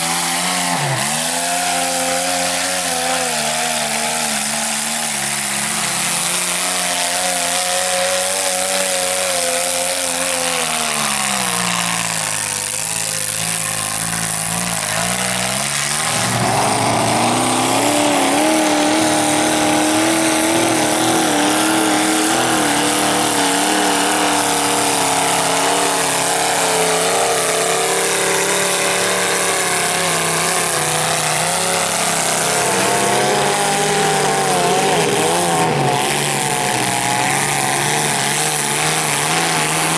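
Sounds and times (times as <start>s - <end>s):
truck engine at high revs: 0.0s - 39.9s.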